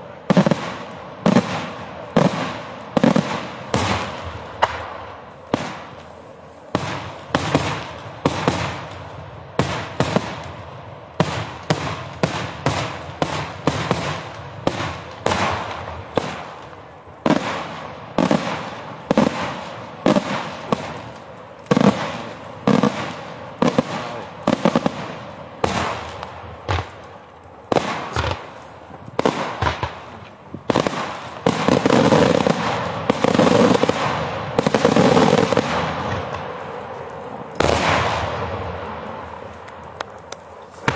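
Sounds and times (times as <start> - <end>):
fireworks bursting with loud bangs: 0.0 - 40.9.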